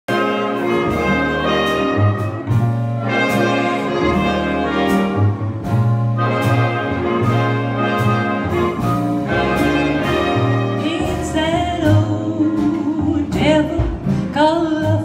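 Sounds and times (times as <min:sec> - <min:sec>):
jazz big band playing: 0:00.1 - 0:15.0.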